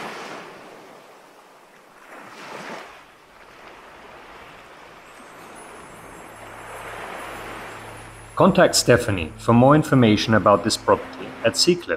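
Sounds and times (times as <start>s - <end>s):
surf washing onto beach: 0.0s - 11.9s.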